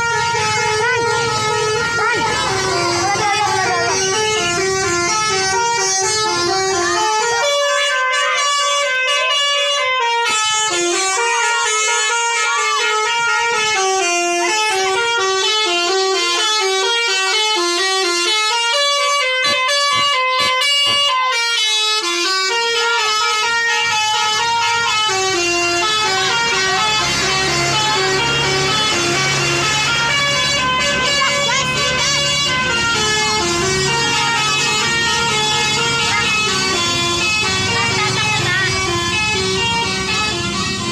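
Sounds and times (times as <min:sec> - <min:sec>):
bus musical horn melody: 0:00.0 - 0:40.9.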